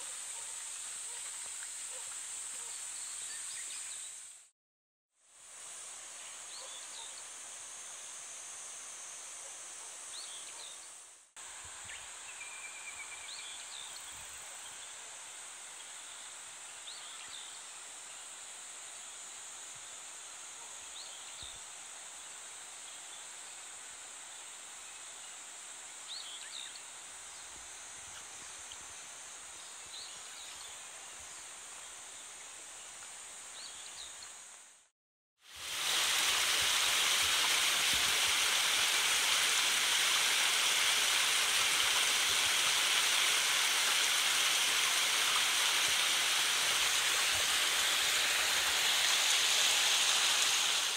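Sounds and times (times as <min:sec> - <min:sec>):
cicadas droning: 0:05.4 - 0:34.8, 0:35.6 - 0:50.9.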